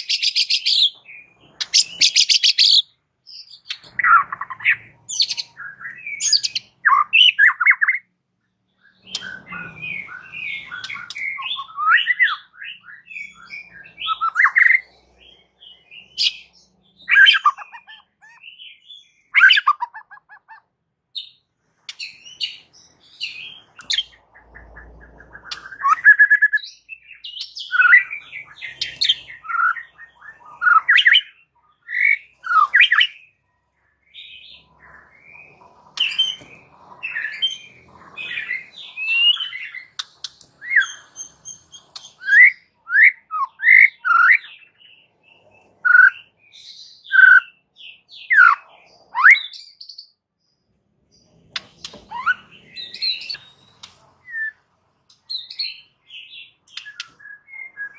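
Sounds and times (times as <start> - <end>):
songbird whistling and chattering: 0.0 - 8.1, 8.8 - 33.3, 34.1 - 50.2, 51.6 - 54.6, 55.2 - 57.9.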